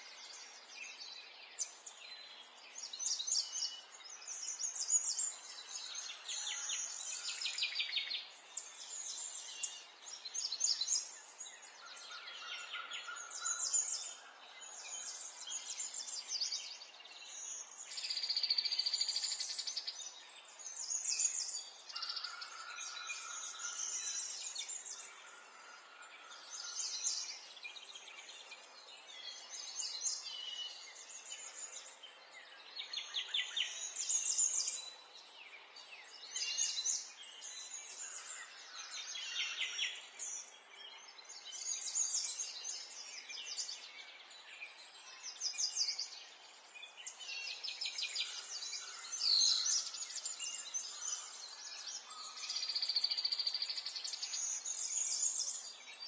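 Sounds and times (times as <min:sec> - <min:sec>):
faint outdoor hiss: 0:00.0 - 0:56.0
songbirds singing: 0:00.0 - 0:56.0.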